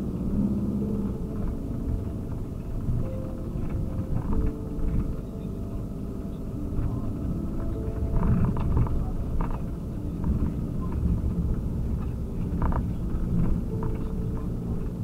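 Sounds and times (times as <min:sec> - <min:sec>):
engine and tyre rumble: 0:00.0 - 0:15.0
knocks and rattles over bumps: 0:00.8 - 0:15.0.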